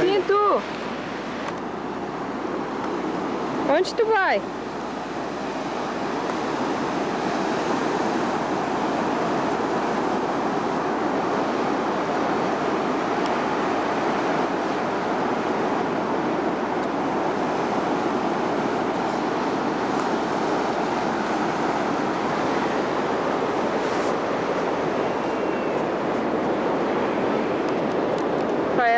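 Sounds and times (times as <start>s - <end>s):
sea surf rushing: 0.0s - 28.9s
wind noise on microphone: 0.0s - 28.9s.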